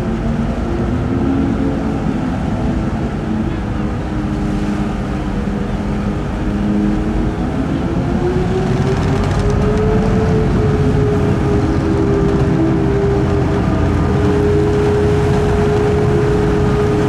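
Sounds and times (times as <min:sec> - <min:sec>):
marine diesel engine droning: 0:00.0 - 0:17.0.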